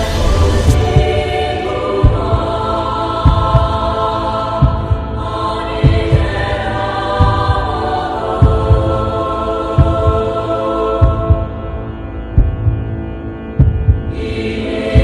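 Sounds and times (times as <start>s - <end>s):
choral chanting: 0.0s - 12.7s, 13.6s - 15.0s
low heartbeat-like thumps: 0.0s - 14.3s.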